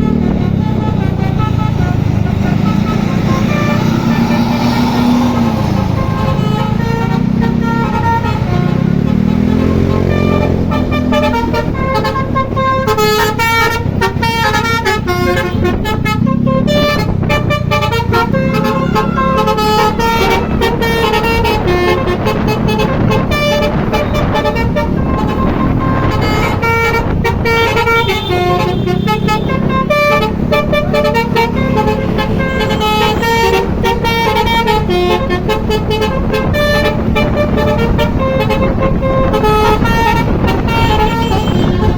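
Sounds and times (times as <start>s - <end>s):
musical bus horn melodies: 0.0s - 41.9s
vehicle engine running: 0.0s - 41.9s.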